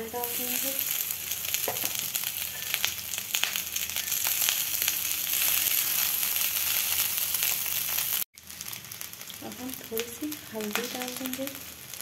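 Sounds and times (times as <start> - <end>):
oil and vegetables sizzling in wok: 0.0 - 12.0.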